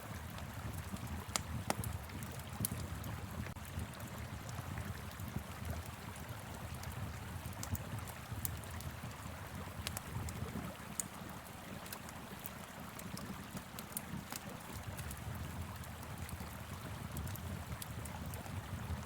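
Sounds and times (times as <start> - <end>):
wood fire crackling: 0.1 - 19.0.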